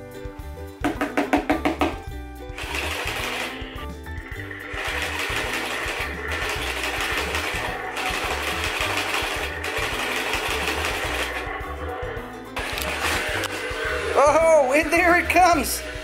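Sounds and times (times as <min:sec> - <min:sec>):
toy truck motor whirring rattle: 0:02.6 - 0:12.0, 0:12.6 - 0:16.0.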